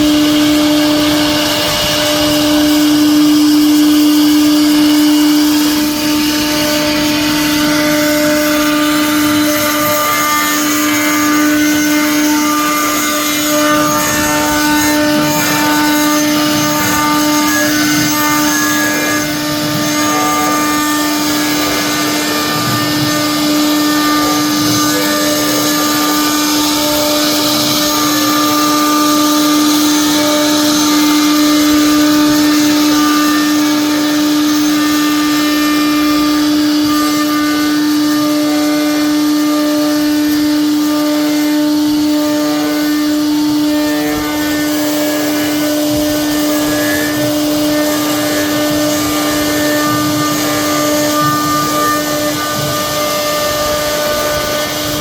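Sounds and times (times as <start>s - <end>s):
router bit cutting wood: 0.0s - 55.0s
router spindle whine: 0.0s - 55.0s.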